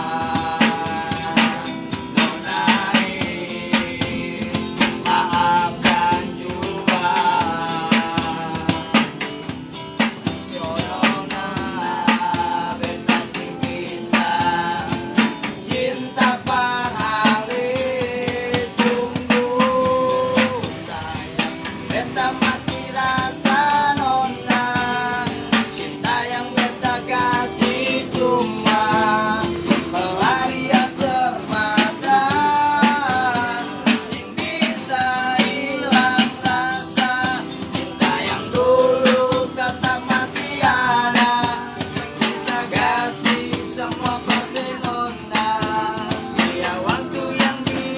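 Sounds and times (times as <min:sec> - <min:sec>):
drum beat: 0:00.0 - 0:47.9
guitar plucked and strummed: 0:00.0 - 0:47.9
person singing: 0:00.0 - 0:47.9.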